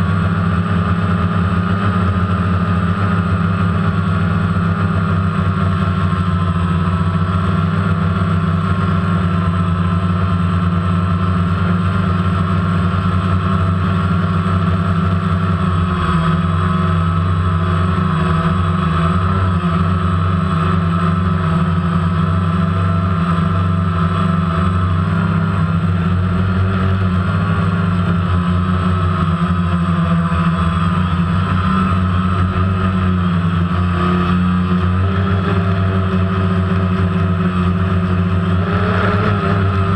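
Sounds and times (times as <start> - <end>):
drone propellers whirring: 0.0 - 39.9.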